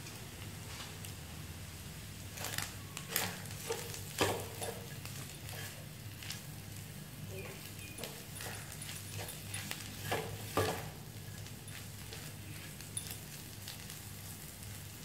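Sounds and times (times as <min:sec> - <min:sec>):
food sizzling in wok: 0:00.0 - 0:15.0
spatula scraping wok: 0:02.2 - 0:15.0.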